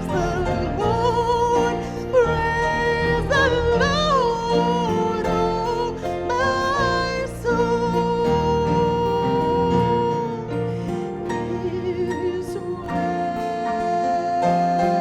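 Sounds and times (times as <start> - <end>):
instrumental accompaniment: 0.0 - 15.0
person singing long notes: 0.0 - 15.0.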